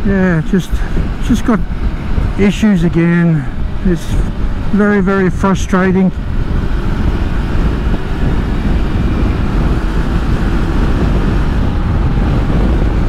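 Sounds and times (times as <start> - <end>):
motorcycle engine drone: 0.0 - 13.0
wind and road noise rumble: 0.0 - 13.0.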